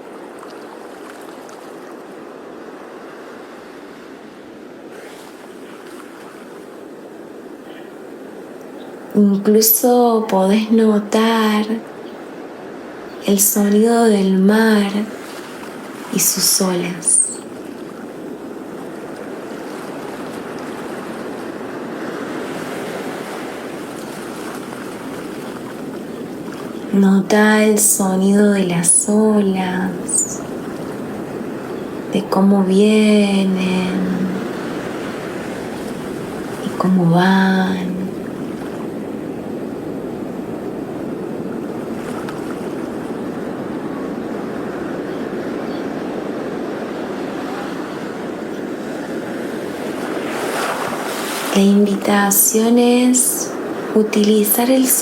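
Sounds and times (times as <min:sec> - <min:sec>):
sea waves on a shore: 0:00.0 - 0:55.0.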